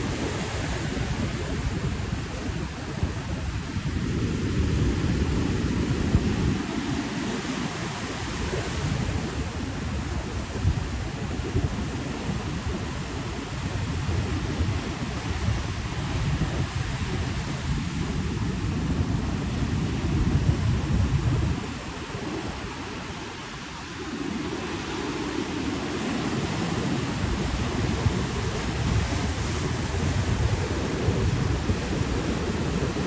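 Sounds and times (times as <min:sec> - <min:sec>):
ocean surf washing in: 0:00.0 - 0:33.0
wind buffeting microphone: 0:00.0 - 0:33.0.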